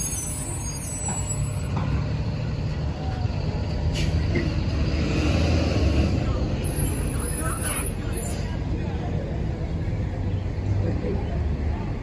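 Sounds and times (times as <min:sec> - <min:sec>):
bus engine rumble: 0:00.0 - 0:12.0
street traffic: 0:00.0 - 0:12.0.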